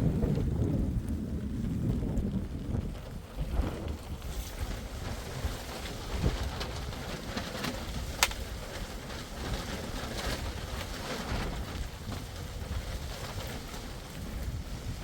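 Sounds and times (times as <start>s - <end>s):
rain: 0.0s - 15.0s
wind rumbling on microphone: 0.0s - 15.0s.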